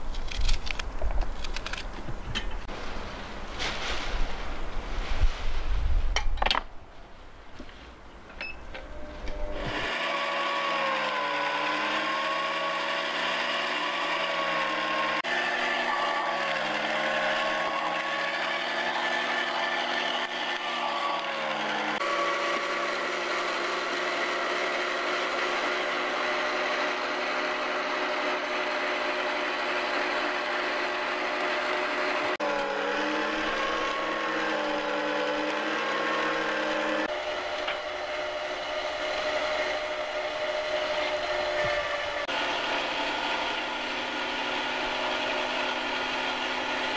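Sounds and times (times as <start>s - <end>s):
electric meat grinder running: 9.3s - 46.9s.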